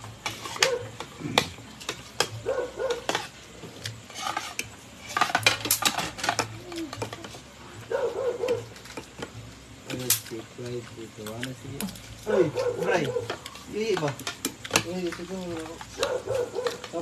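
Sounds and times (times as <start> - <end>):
utensils clinking on a plate: 0.0 - 17.0.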